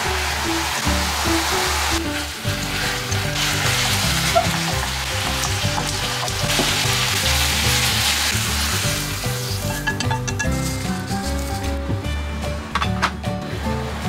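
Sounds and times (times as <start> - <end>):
food sizzling in a frying pan: 0.0 - 11.8
chopsticks stirring in pan: 0.2 - 11.8.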